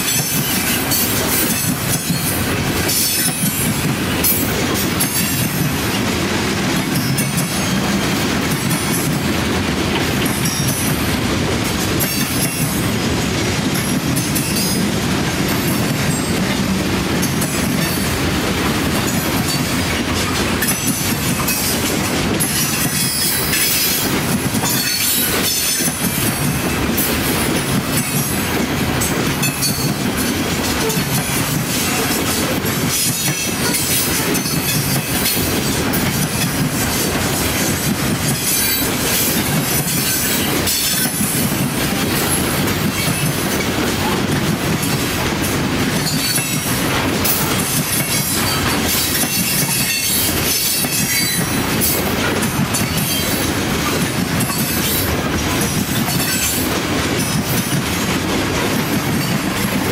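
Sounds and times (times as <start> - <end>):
train wheels clattering over rail joints: 0.0 - 59.9.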